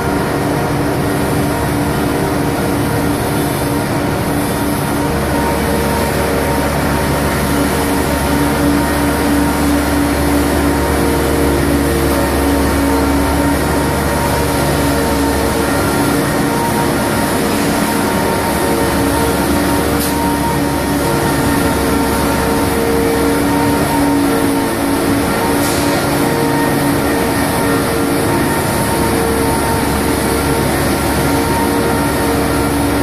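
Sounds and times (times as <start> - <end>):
hydraulic machinery hum: 0.0 - 33.0
machinery whining tones: 0.0 - 33.0.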